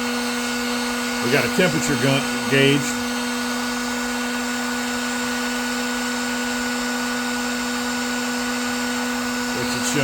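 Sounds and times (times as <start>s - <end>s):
heat gun fan humming: 0.0s - 10.0s.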